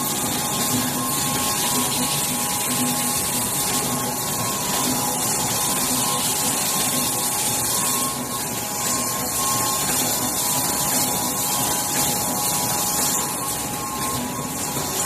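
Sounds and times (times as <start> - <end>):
machine whine: 0.0 - 15.0
printing machine hiss and hum: 0.0 - 15.0.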